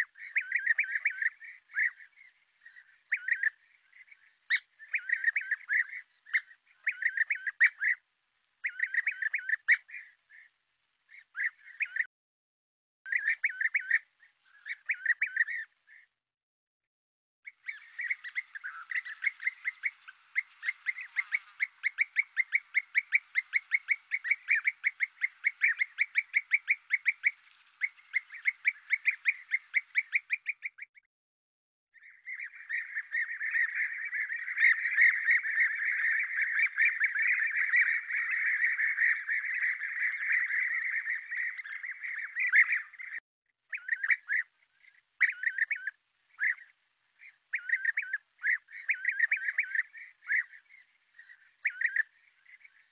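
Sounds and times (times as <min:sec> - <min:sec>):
bee-eaters calling: 0:00.0 - 0:08.0, 0:08.6 - 0:10.5, 0:11.1 - 0:12.1, 0:13.1 - 0:16.0, 0:17.5 - 0:30.9, 0:32.0 - 0:52.9.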